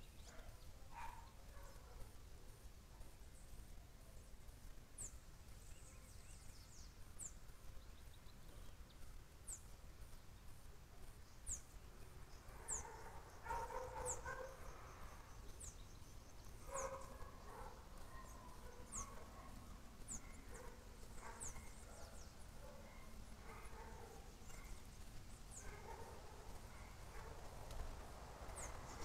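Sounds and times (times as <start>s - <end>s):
faint low scattered sounds: 0.0s - 29.0s.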